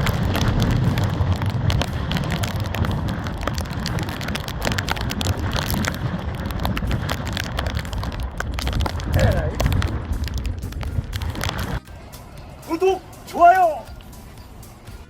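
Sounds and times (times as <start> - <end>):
small sharp crackles: 0.0 - 15.0
wind buffeting microphone: 0.0 - 15.0.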